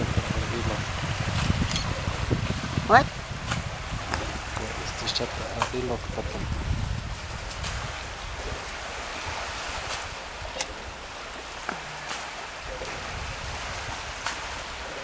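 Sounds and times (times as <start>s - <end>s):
wind rumble on microphone: 0.0s - 11.7s, 12.3s - 15.0s
waves washing onto beach: 0.0s - 15.0s.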